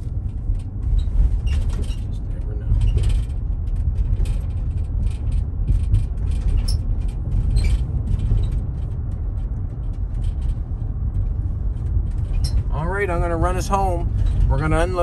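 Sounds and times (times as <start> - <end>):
faint clicks and rattles: 0.0 - 15.0
truck road and engine rumble: 0.0 - 15.0.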